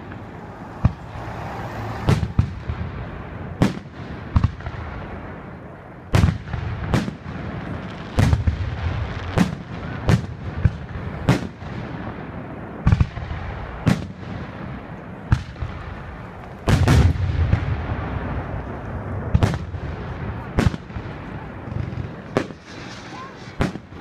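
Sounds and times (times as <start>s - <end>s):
fireworks bursting bangs: 0.0s - 24.0s.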